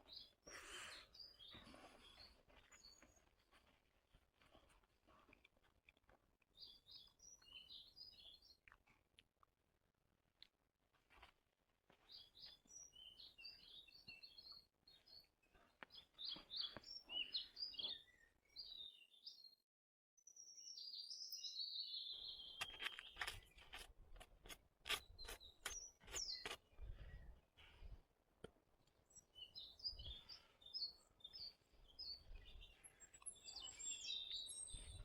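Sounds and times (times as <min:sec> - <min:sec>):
small birds chirping: 0:00.0 - 0:03.8, 0:04.4 - 0:09.1, 0:12.0 - 0:19.6, 0:20.2 - 0:28.0, 0:28.8 - 0:35.0.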